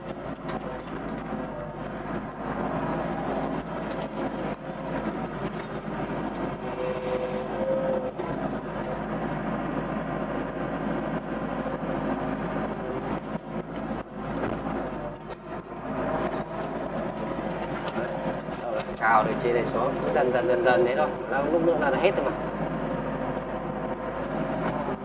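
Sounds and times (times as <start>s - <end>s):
excavator running under load: 0.0s - 25.0s.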